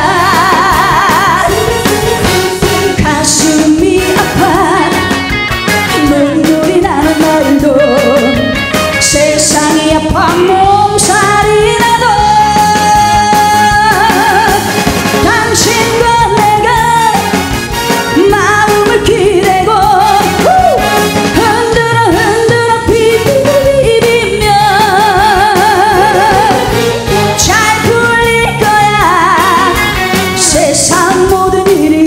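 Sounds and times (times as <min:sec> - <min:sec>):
woman singing into a microphone: 0:00.0 - 0:17.4, 0:18.1 - 0:32.0
backing band playing: 0:00.0 - 0:32.0.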